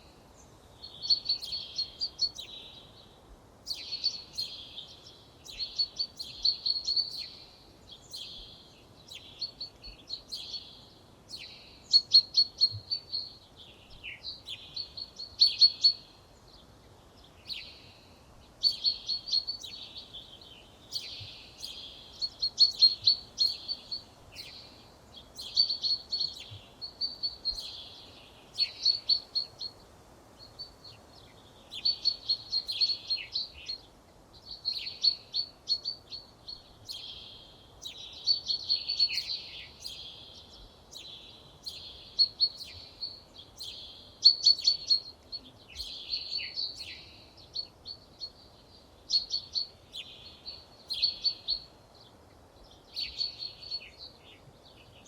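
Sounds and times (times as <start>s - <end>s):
faint outdoor background: 0.0s - 55.0s
songbird singing: 0.0s - 55.0s.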